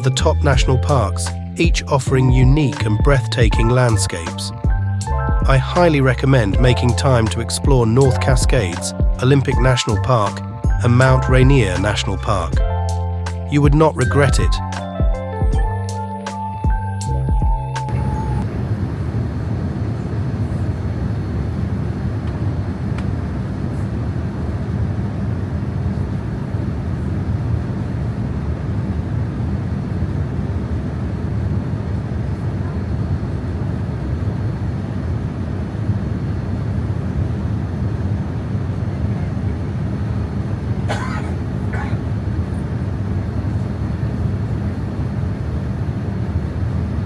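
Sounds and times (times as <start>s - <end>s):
airplane cabin engine roar: 0.0s - 14.3s, 17.7s - 47.0s.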